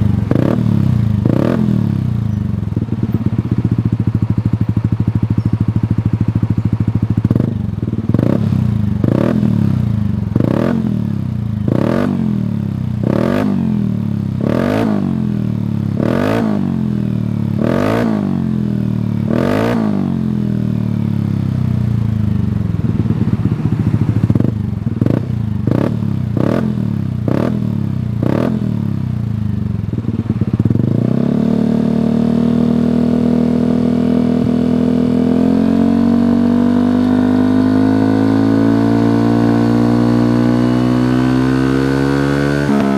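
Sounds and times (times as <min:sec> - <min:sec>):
scooter engine revving: 0:00.0 - 0:42.9.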